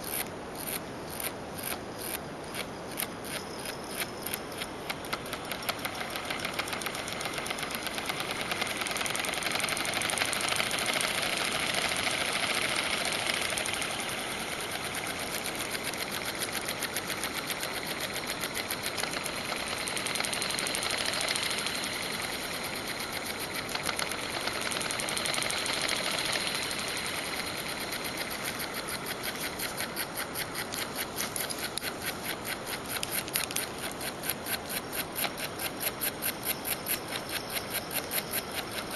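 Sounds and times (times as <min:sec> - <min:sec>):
solenoid engine clicking rapidly: 0:00.0 - 0:38.9.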